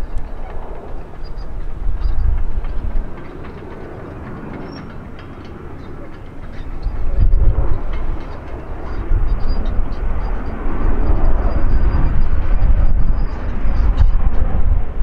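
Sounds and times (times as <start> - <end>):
jet engines rumbling overhead: 0.0 - 15.0.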